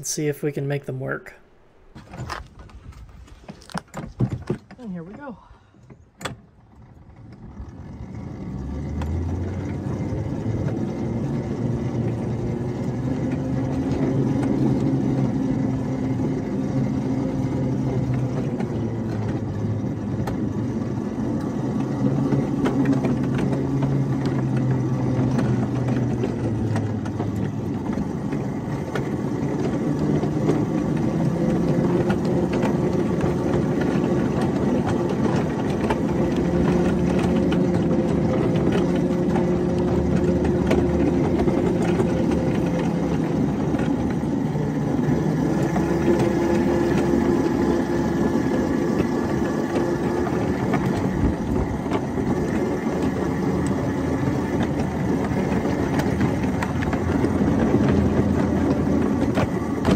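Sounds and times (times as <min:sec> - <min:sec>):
miniature locomotive engine running: 0:06.6 - 0:59.9.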